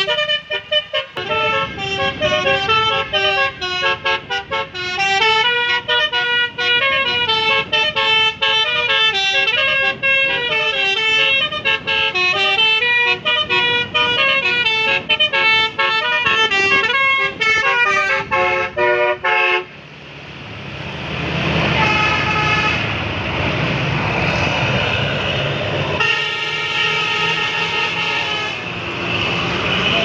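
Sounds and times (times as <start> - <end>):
bus musical horn: 0.0 - 19.8, 21.6 - 23.0, 26.0 - 30.0
engine and road noise: 0.0 - 30.0.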